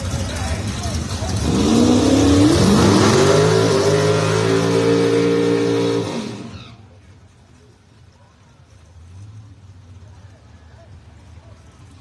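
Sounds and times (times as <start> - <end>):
racing car engines at full throttle: 0.0 - 12.0.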